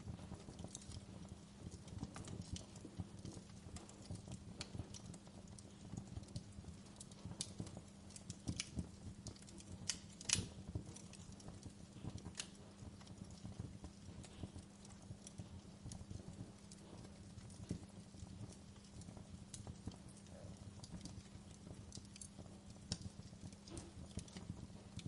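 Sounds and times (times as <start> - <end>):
steady low hum: 0.0 - 25.0
wood fire crackling: 0.0 - 25.0.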